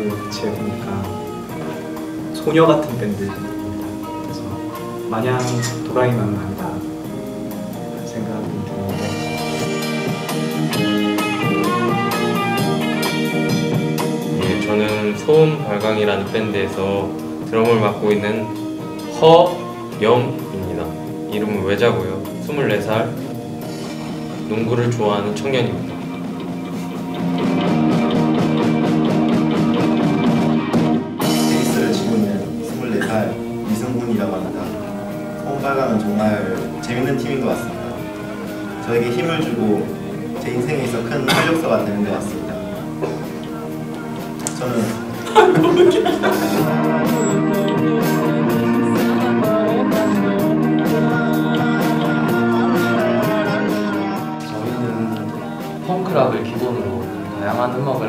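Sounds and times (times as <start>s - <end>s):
drums: 0.0s - 58.0s
electric guitars: 0.0s - 58.0s
fast cymbal beat: 0.0s - 58.0s
punk rock band playing: 0.0s - 58.0s.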